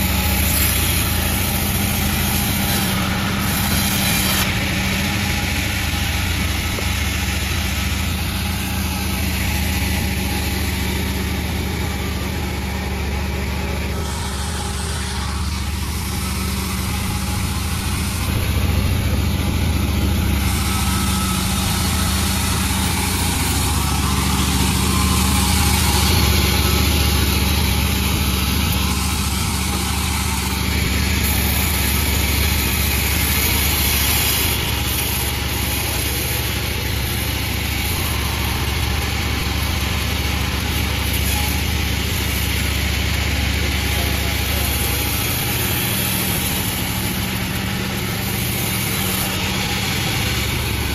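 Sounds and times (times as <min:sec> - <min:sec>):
sawmill machine droning: 0:00.0 - 0:50.9.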